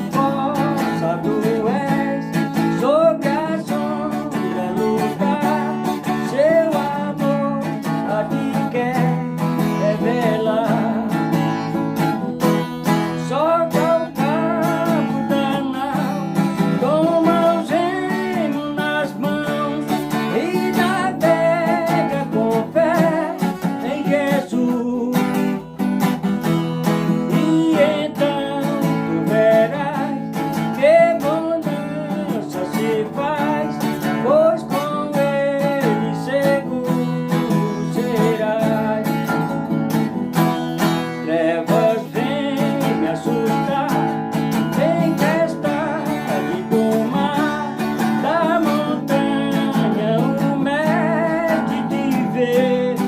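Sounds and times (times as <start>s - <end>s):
man singing: 0.0s - 53.0s
strummed acoustic guitar: 0.0s - 53.0s.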